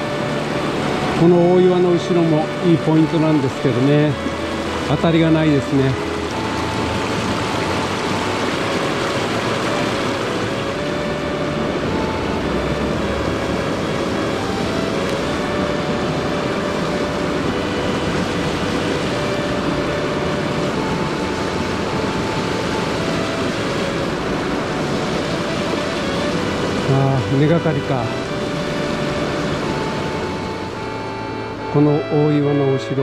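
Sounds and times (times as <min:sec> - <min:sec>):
mountain stream rushing: 0:00.0 - 0:33.0.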